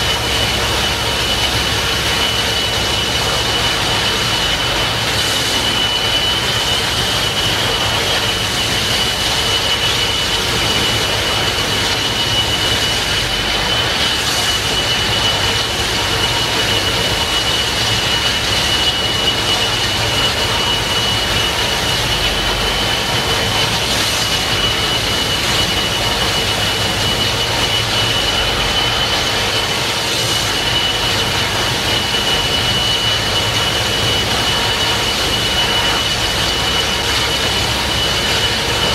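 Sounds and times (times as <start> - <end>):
gas turbines whining: 0.0 - 38.9
waterjets churning: 0.0 - 38.9.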